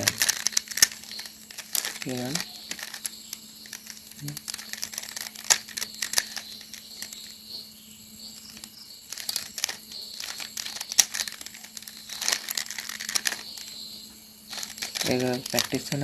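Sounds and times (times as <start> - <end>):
plastic puzzle cube clicking: 0.0 - 7.4, 8.4 - 13.8, 14.5 - 16.0.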